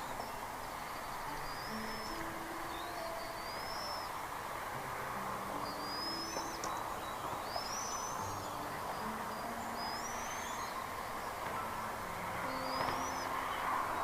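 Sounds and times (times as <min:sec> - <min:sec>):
bird whistling: 0:00.0 - 0:04.2, 0:05.6 - 0:11.4, 0:12.4 - 0:14.0
outdoor background hiss: 0:00.0 - 0:14.0.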